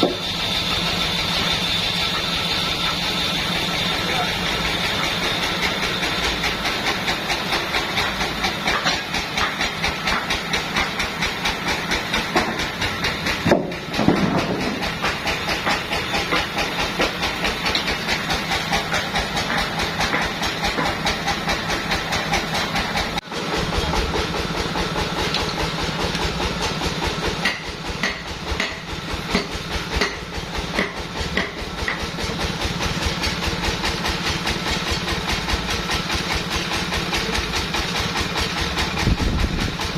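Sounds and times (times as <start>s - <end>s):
sawmill machinery hiss and rumble: 0.0s - 39.9s.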